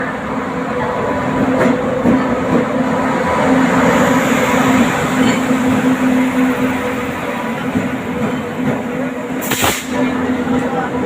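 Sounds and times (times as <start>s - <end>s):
low locomotive hum: 0.0s - 11.0s
train running along track: 0.0s - 11.0s.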